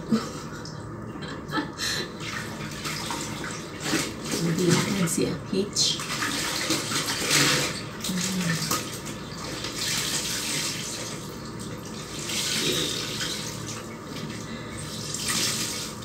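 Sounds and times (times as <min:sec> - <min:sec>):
water pouring and splashing: 0:02.2 - 0:05.1, 0:05.8 - 0:16.0.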